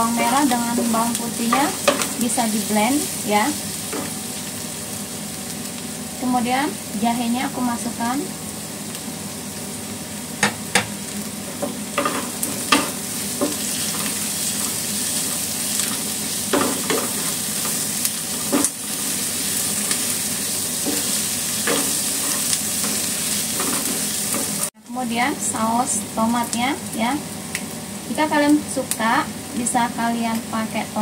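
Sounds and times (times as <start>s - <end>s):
onions sizzling in ghee: 0.0s - 31.0s.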